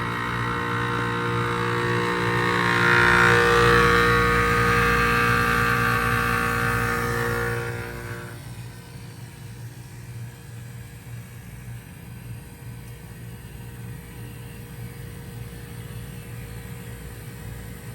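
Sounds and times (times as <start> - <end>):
heat pump mechanical hum: 0.0 - 17.9.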